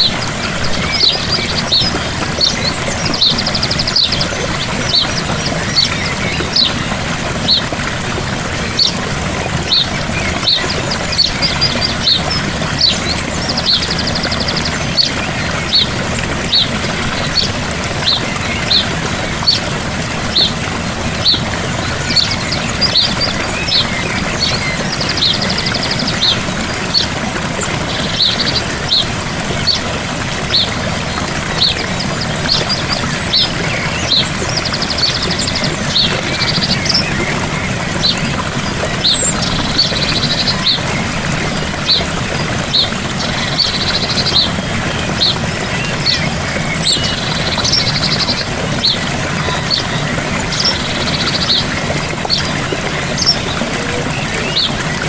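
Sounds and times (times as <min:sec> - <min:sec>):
bird chirping: 0:00.0 - 0:07.9, 0:08.5 - 0:55.0
waterfall rushing: 0:00.0 - 0:55.0.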